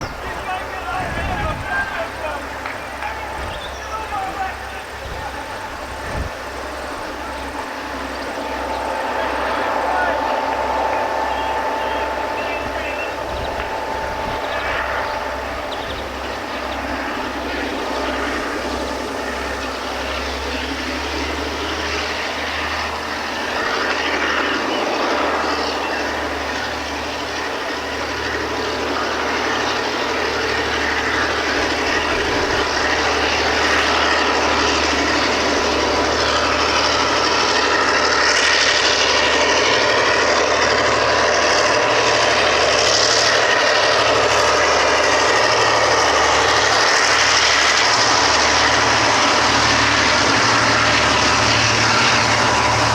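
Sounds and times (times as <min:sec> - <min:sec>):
diesel locomotives running: 0:00.0 - 0:52.9.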